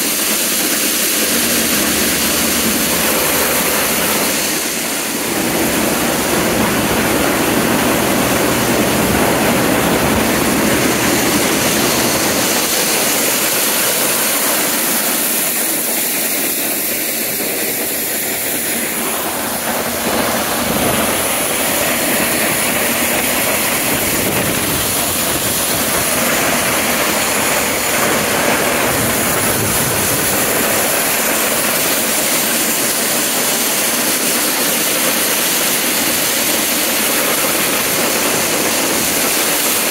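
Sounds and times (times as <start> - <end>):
corn sheller machinery: 0.0 - 39.9
tractor engine running: 0.0 - 39.9.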